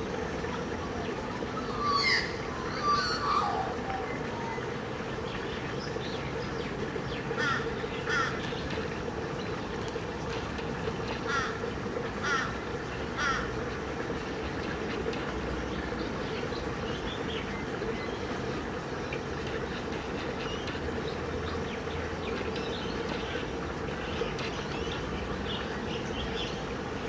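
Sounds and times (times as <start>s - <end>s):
steady low hum: 0.0s - 27.0s
wetland birds calling: 0.0s - 27.0s.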